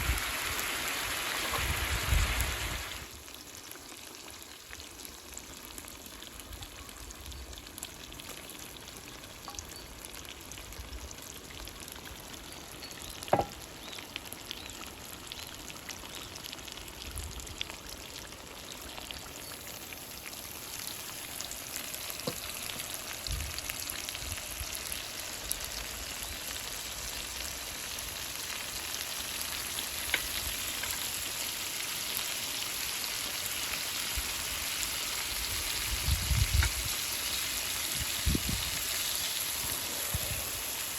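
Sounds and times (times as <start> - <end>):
food sizzling and frying: 0.0 - 40.9.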